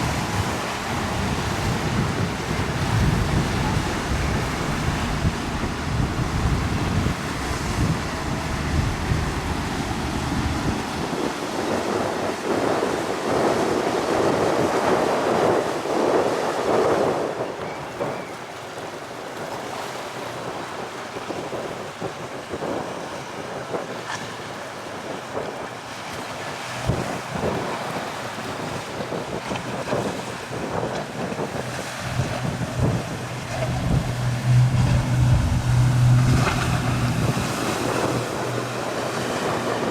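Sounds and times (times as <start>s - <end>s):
choppy water: 0.0s - 39.9s
motorboat engine hum: 0.0s - 39.9s
wind buffeting microphone: 0.0s - 39.9s.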